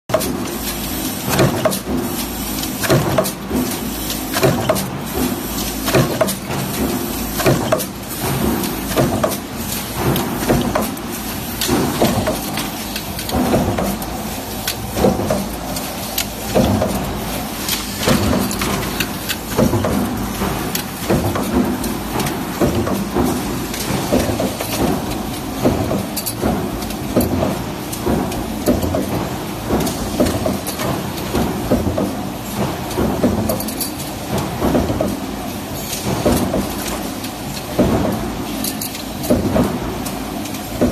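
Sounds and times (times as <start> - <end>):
steady mechanical din: 0.1 - 35.3
metal clanks of stamping press: 0.1 - 40.9.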